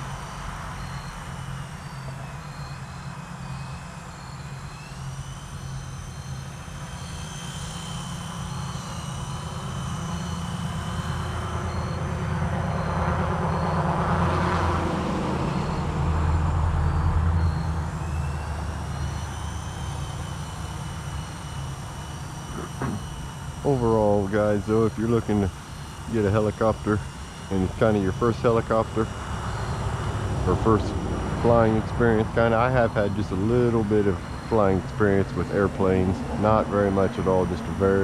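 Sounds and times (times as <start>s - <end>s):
rc helicopter rotor whine: 0.0s - 38.0s.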